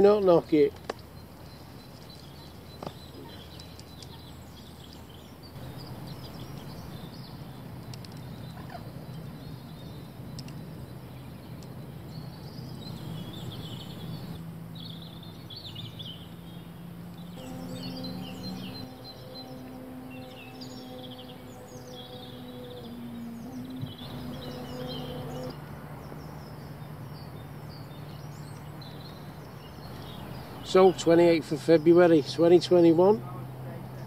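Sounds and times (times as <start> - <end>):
low steady hum: 0.0 - 34.0
small birds chirping: 0.0 - 34.0.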